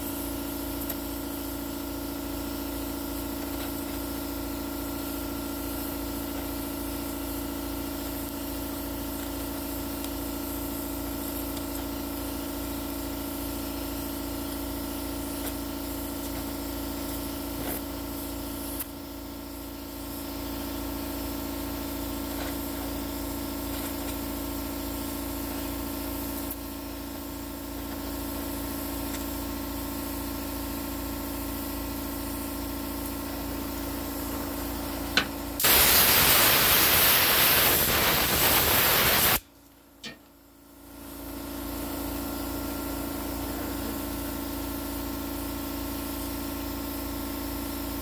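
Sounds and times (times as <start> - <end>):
welding torch flame hissing: 0.0 - 48.0.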